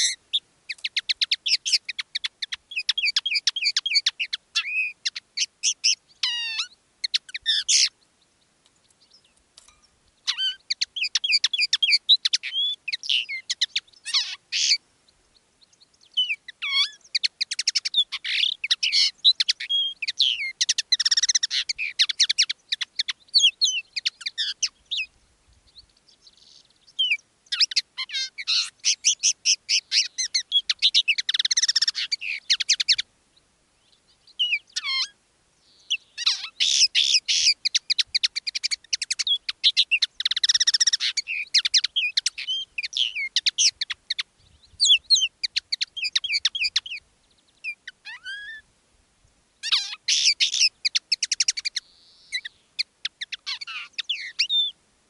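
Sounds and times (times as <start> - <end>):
linnet twittering song: 0.0 - 48.7, 49.6 - 54.8.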